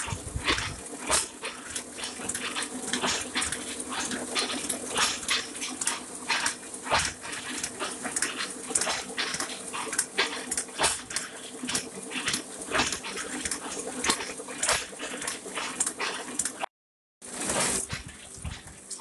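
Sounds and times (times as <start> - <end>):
printing press hum: 0.0 - 19.0.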